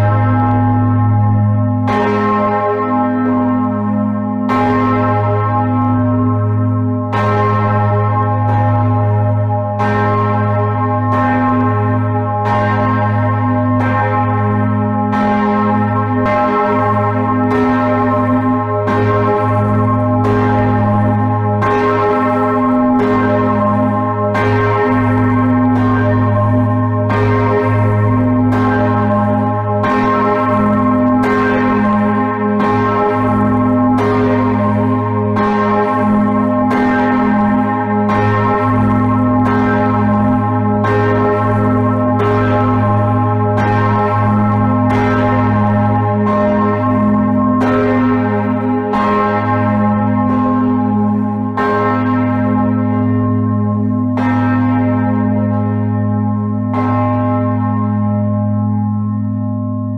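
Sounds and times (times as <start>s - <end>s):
large church bell ringing: 0.0s - 59.9s.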